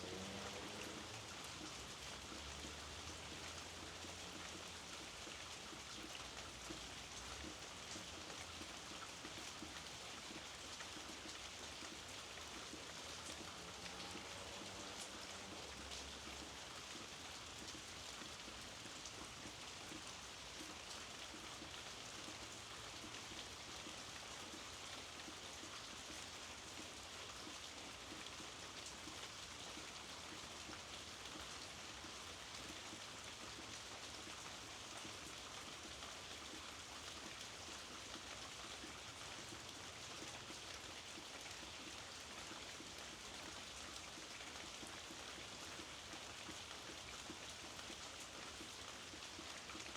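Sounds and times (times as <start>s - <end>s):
raindrops pattering on surfaces: 0.0s - 49.9s
steady rainfall: 0.0s - 49.9s.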